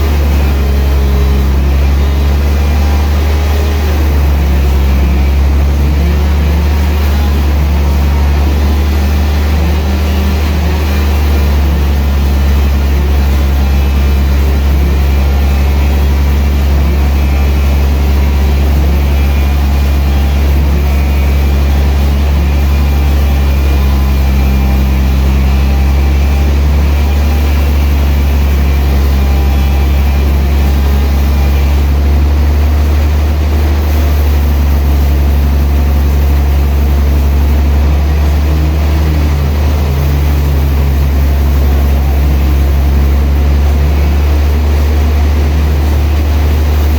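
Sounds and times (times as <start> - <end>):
sawmill machinery droning: 0.0 - 46.9.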